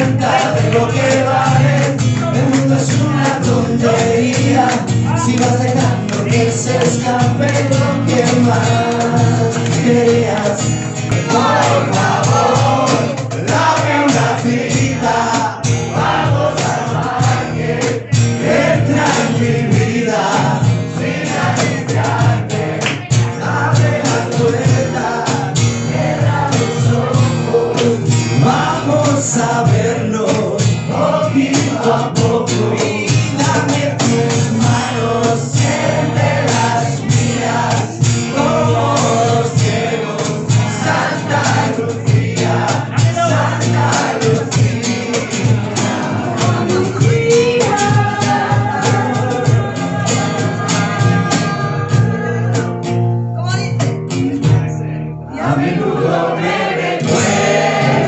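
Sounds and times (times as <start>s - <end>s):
woman and man singing: 0.0s - 54.7s, 55.3s - 58.0s
cajon beat: 0.0s - 58.0s
plucked double bass: 0.0s - 58.0s
strummed acoustic guitar: 0.0s - 58.0s.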